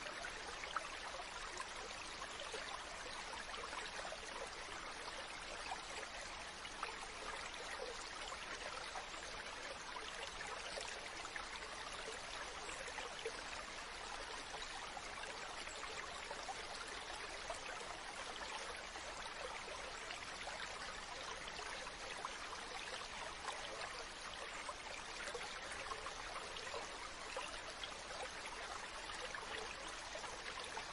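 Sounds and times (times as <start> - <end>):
stream of running water: 0.0 - 30.9.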